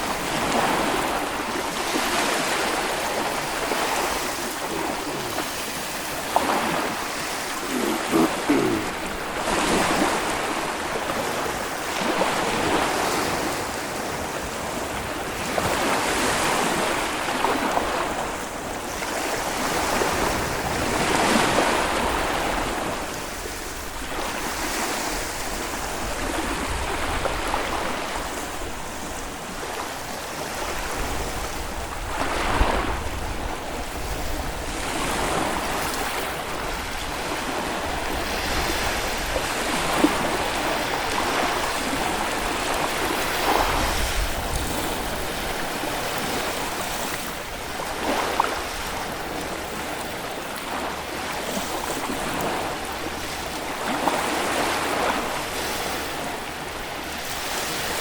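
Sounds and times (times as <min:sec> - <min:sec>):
small waves breaking on sand: 0:00.0 - 0:58.0.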